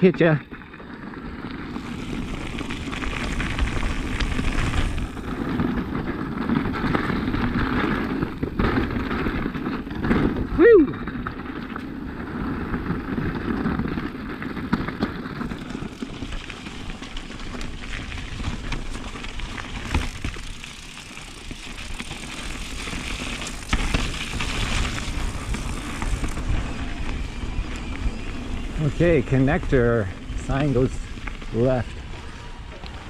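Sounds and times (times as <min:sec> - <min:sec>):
bike knocking and clattering: 0:00.0 - 0:31.8
bike tyres rumbling over rock: 0:00.0 - 0:33.0.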